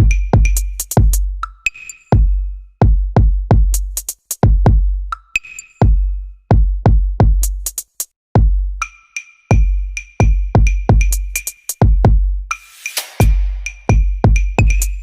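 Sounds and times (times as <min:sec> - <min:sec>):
electronic music with drum-machine beat: 0:00.0 - 0:15.0.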